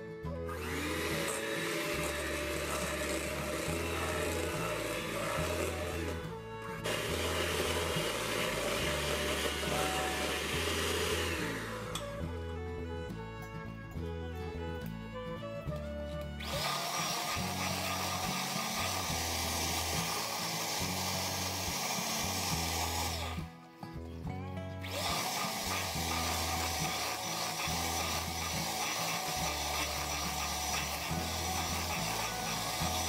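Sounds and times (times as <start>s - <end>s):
electric hand mixer whining: 0.0s - 12.4s, 16.4s - 23.6s, 24.8s - 33.0s.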